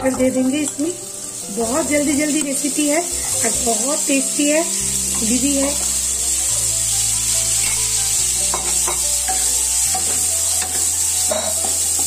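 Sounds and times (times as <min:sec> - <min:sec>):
peas sizzling in butter: 0:00.0 - 0:12.0.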